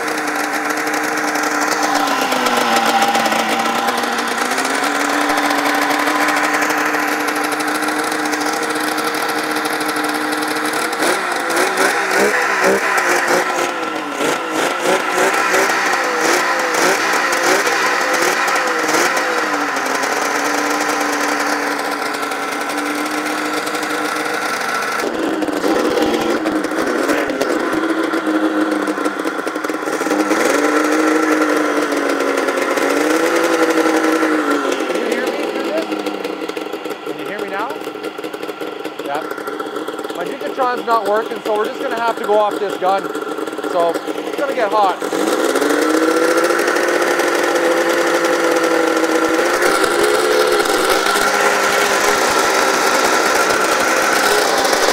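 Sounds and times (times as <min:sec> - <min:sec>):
two-stroke snowmobile engine revving: 0:00.0 - 0:54.9.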